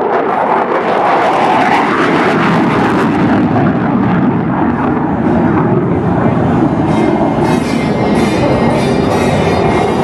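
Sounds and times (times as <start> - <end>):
jet engine roaring in afterburner: 0.0 - 10.0.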